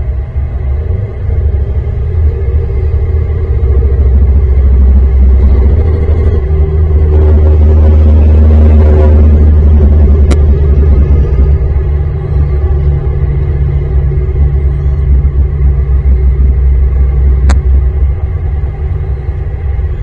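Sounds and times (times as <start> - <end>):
dark ambient drone: 0.0 - 20.0.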